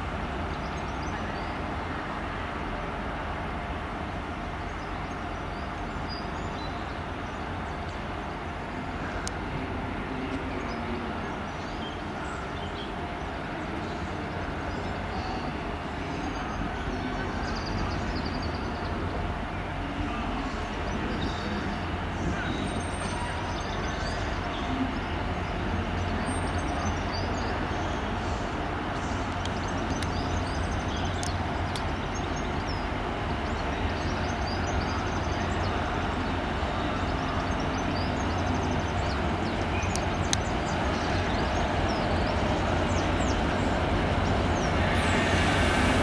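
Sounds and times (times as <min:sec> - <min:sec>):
diesel locomotive engine hum: 0:00.0 - 0:46.0.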